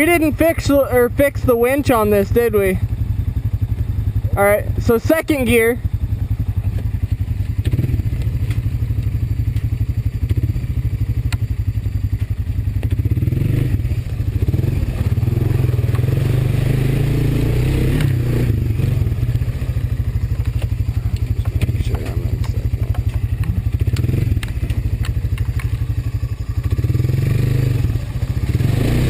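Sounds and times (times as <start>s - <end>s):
atv engine running steadily: 0.0s - 29.0s
engine clatter: 0.0s - 29.0s.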